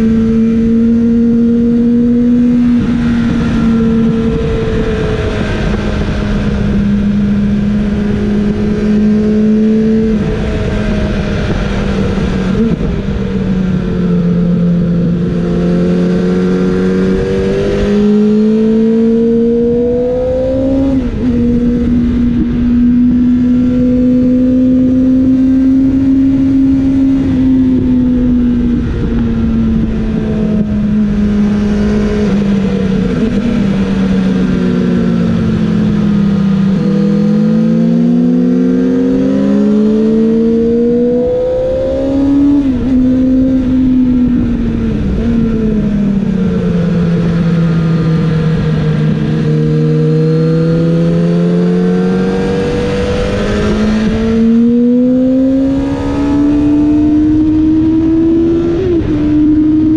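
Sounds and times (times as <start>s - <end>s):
motorcycle engine at high revs: 0.0s - 59.9s
rush of wind: 0.0s - 59.9s.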